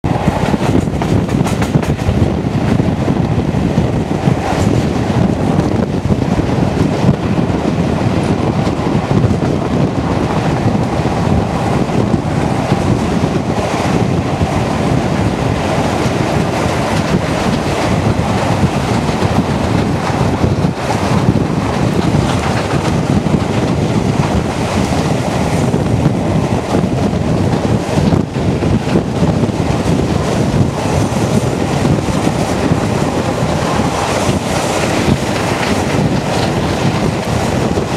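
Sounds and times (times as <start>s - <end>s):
steam train running: 0.0s - 37.9s
wind buffeting microphone: 0.0s - 37.9s.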